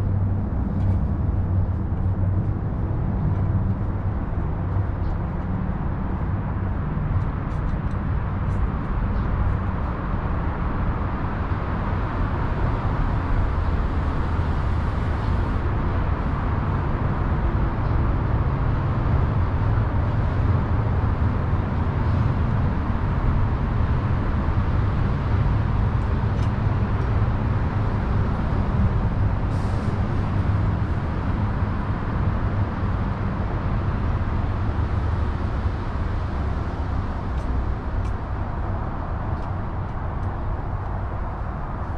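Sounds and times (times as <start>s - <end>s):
city traffic rumble: 0.0s - 41.9s.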